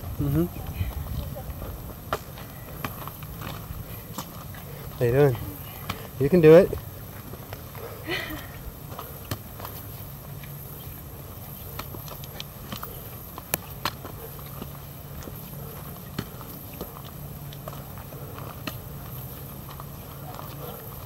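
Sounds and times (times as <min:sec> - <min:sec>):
footsteps on rocky trail: 0:00.0 - 0:21.0
steady low rumble: 0:00.0 - 0:21.0.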